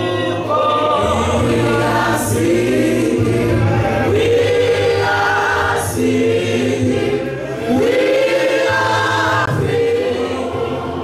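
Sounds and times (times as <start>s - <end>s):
congregation singing a hymn: 0.0s - 11.0s.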